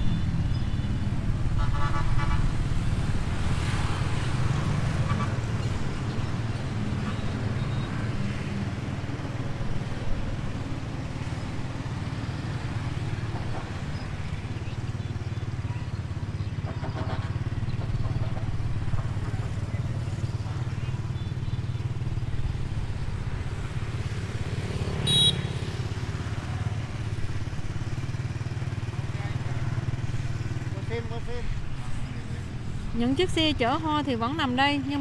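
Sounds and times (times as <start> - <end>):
street ambience rumble: 0.0 - 35.0.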